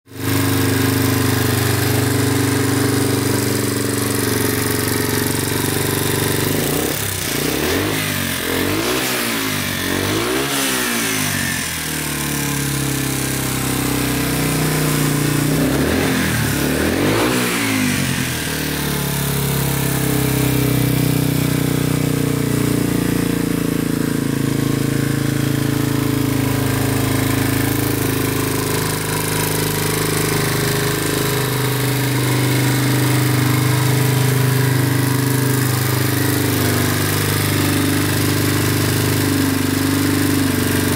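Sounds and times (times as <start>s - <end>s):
engine revving: 0.1s - 40.9s
motorcycle engine idling: 0.1s - 40.9s.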